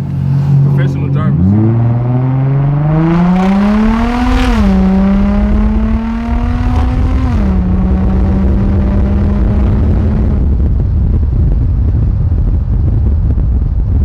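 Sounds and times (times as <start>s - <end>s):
car exhaust accelerating hard: 0.0s - 14.0s.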